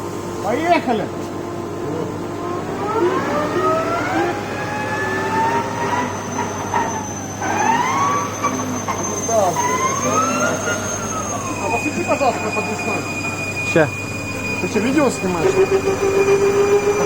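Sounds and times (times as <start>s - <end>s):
car transmission whine: 1.5s - 17.0s.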